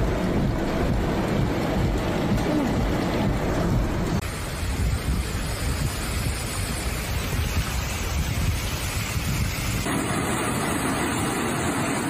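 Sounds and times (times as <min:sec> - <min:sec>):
vehicle rumble: 0:00.0 - 0:10.1
floodwater rushing: 0:00.0 - 0:12.0
wind on microphone: 0:00.0 - 0:12.0.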